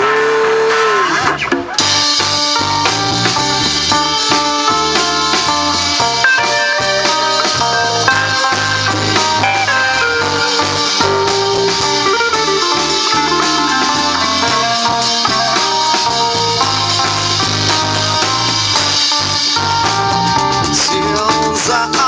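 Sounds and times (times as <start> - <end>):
bass: 0.0 - 22.0
drums: 0.0 - 22.0
guitar melody: 0.0 - 22.0.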